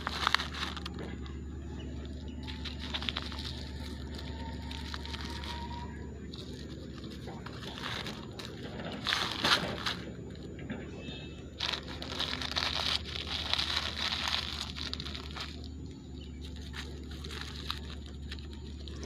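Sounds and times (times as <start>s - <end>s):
plastic wrappers crinkling: 0.0s - 19.0s.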